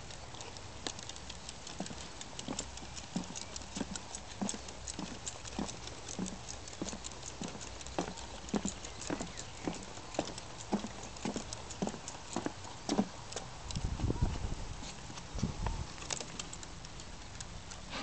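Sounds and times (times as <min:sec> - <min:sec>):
rapid light clicks: 0:00.0 - 0:13.9, 0:15.9 - 0:18.0
footsteps on wooden boardwalk: 0:01.6 - 0:16.4.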